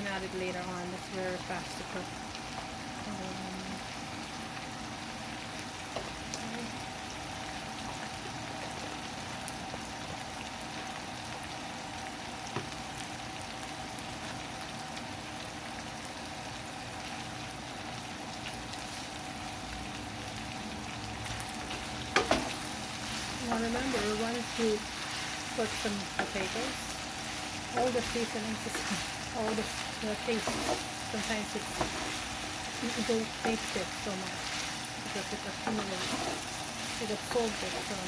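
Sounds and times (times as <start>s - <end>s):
stew simmering and sizzling in a pot: 0.0s - 38.0s.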